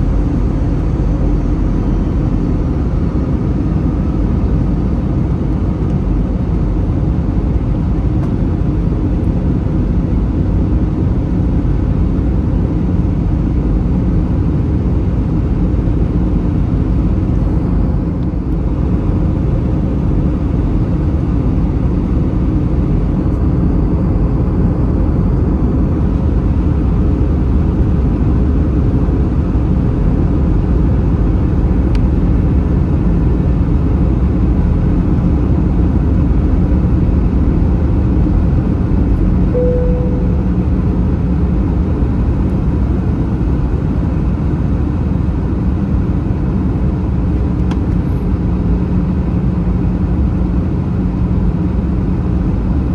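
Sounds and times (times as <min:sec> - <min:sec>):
jet engine and airflow rumble: 0:00.0 - 0:52.9.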